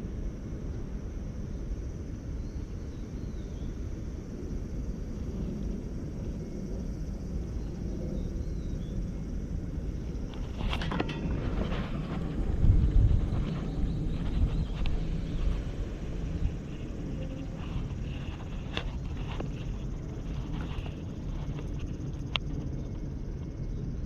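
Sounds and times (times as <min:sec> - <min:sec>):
waterside rumble and hiss: 0:00.0 - 0:24.0.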